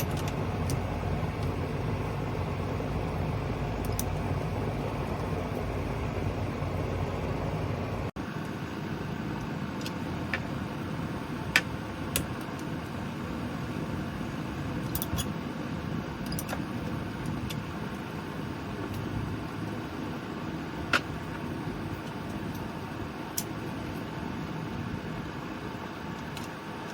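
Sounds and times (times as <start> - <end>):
electric fan whooshing: 0.0 - 26.9.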